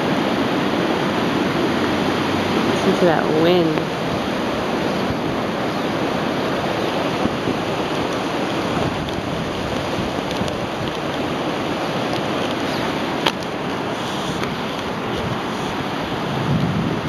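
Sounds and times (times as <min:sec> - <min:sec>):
strong wind blowing: 0:00.0 - 0:17.0.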